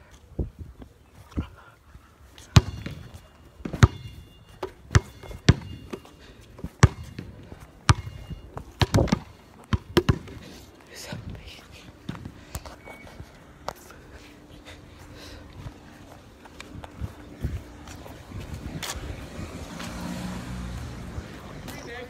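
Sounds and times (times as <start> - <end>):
footsteps on pavement: 0.0 - 22.0.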